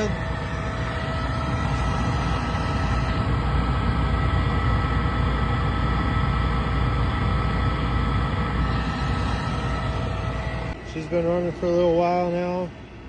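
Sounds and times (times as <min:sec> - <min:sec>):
faint steady whine: 0:00.0 - 0:13.0
rooftop unit rumbling and rushing: 0:00.0 - 0:13.0.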